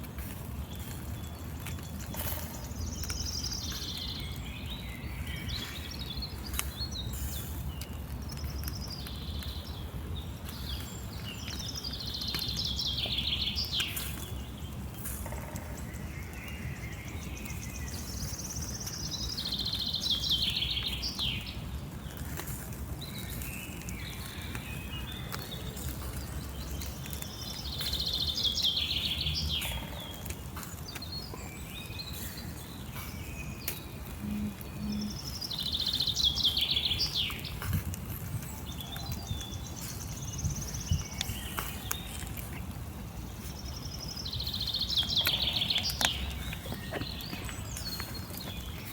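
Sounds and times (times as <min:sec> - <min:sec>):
low outdoor rumble: 0:00.0 - 0:48.9
songbird singing trills: 0:00.0 - 0:48.9.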